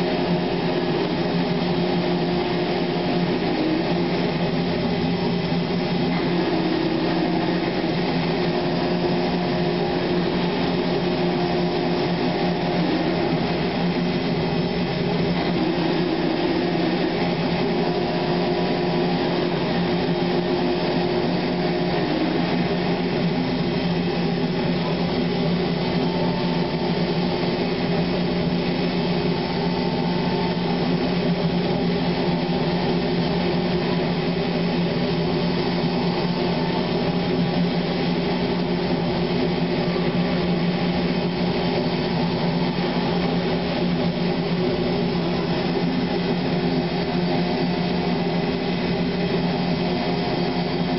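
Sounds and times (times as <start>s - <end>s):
industrial machinery humming: 0.0s - 50.9s.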